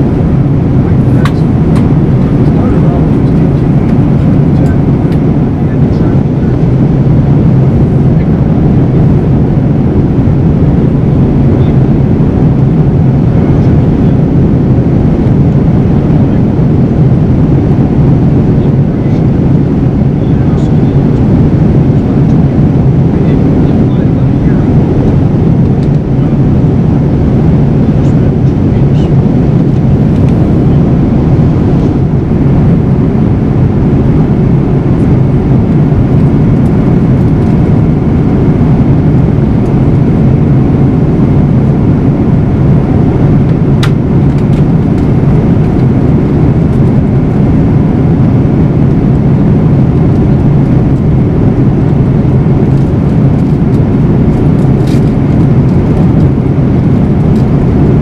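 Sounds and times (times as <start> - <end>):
airflow over fuselage: 0.0 - 58.0
jet engine roar in cabin: 0.0 - 58.0.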